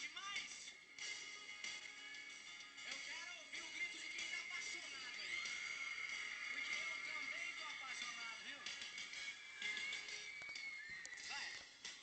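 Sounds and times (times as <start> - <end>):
music through car sound system: 0.0 - 12.0.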